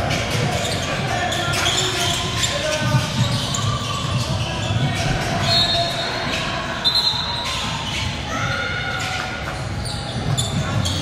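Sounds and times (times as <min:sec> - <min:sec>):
sneakers squeaking on court: 0:00.0 - 0:08.6, 0:09.5 - 0:11.0
spectators chattering: 0:00.0 - 0:11.0.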